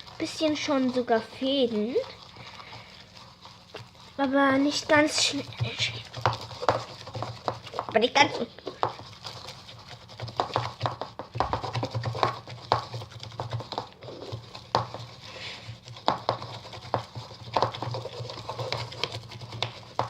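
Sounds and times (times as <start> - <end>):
low steady hum: 0.0 - 20.0
slime being stirred: 0.0 - 20.0.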